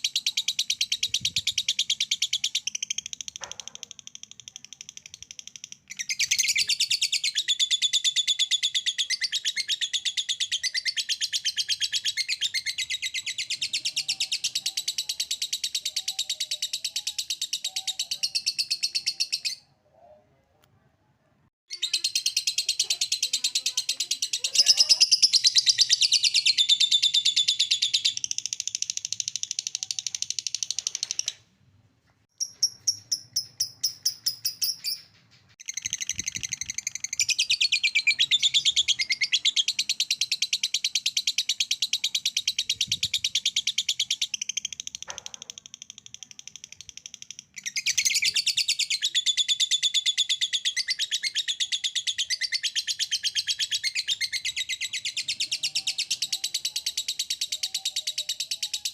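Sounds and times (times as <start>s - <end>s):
high bird chirps: 0.0s - 19.7s, 21.7s - 31.5s, 32.4s - 58.9s.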